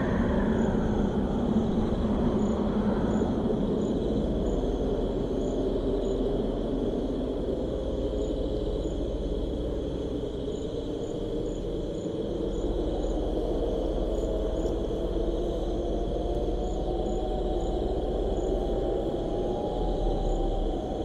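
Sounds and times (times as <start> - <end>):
cricket trill: 0.0 - 21.0
low wind rumble: 0.0 - 21.0.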